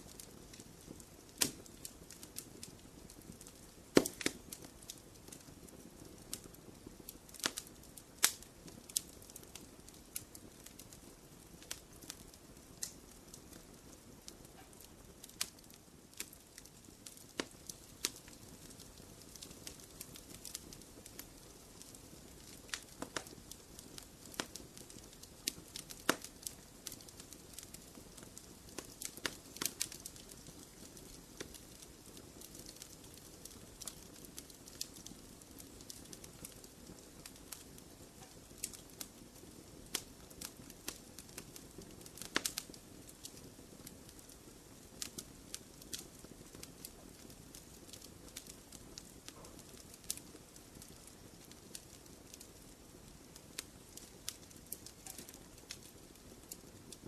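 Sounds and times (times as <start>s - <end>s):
low steady hiss: 0.0s - 57.0s
wood fire crackling: 0.0s - 57.0s.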